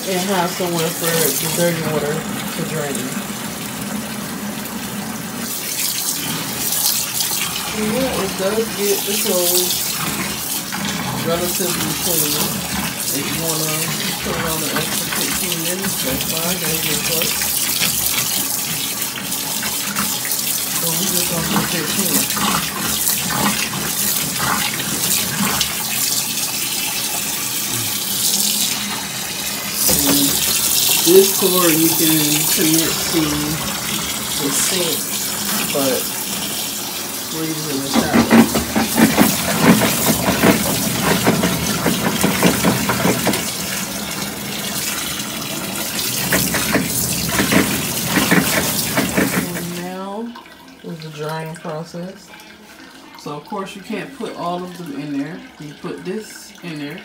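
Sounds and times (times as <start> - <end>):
water running from a hose: 0.0 - 57.0.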